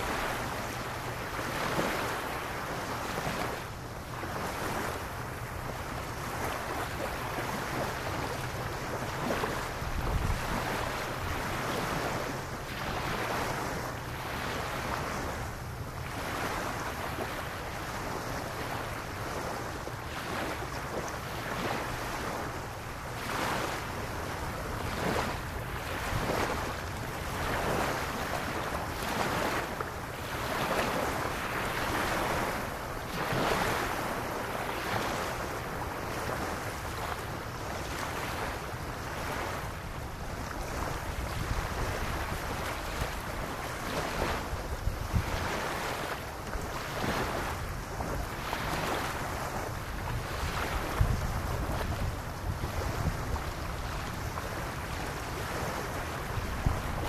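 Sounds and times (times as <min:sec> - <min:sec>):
small waves lapping on sand: 0:00.0 - 0:57.0
wind rumbling on microphone: 0:00.0 - 0:57.0.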